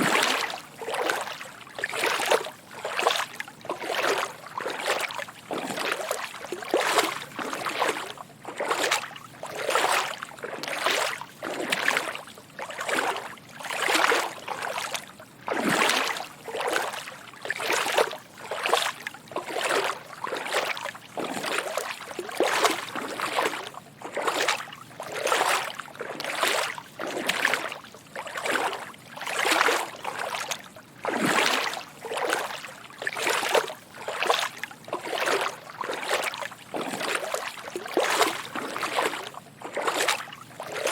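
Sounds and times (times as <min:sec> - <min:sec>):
footsteps wading through water: 0:00.0 - 0:40.9.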